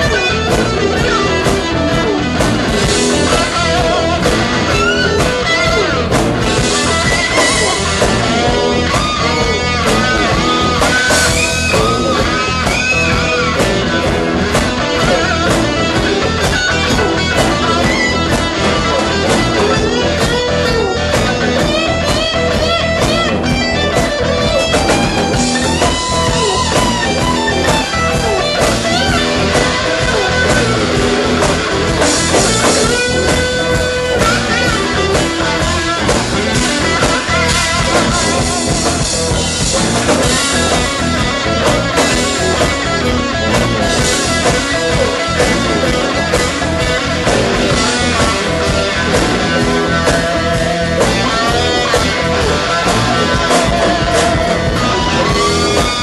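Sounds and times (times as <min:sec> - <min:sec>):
bass guitar: 0:00.0 - 0:56.0
drum kit: 0:00.0 - 0:56.0
electric guitar lead with bent notes: 0:00.0 - 0:56.0.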